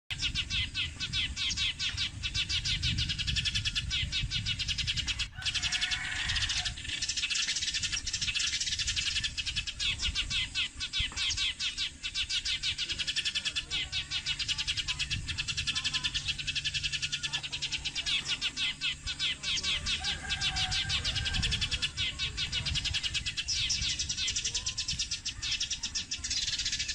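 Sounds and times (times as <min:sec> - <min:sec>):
sparrows chirping: 0:00.1 - 0:26.9.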